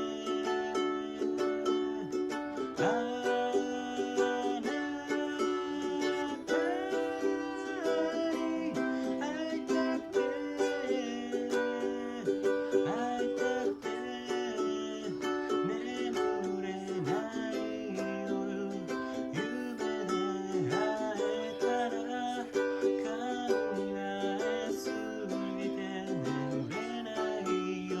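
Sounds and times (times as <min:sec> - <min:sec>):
plucked string tune: 0:00.0 - 0:28.0.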